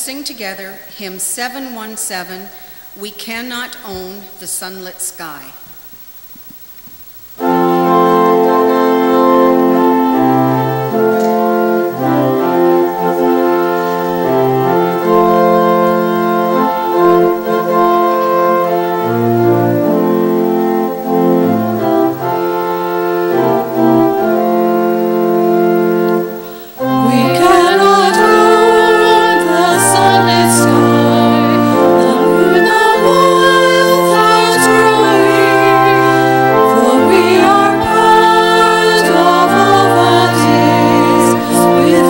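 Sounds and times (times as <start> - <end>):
organ playing chords: 5.6 - 42.0
voices singing a hymn: 7.4 - 42.0.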